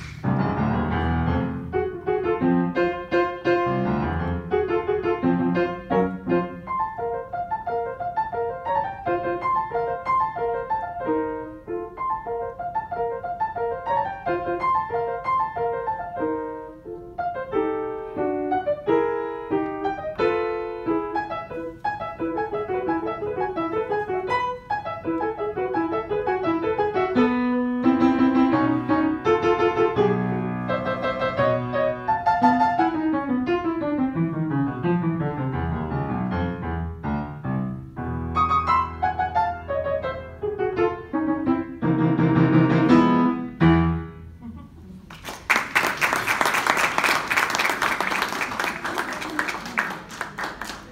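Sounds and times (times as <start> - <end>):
solo piano playing: 0.2 - 44.4.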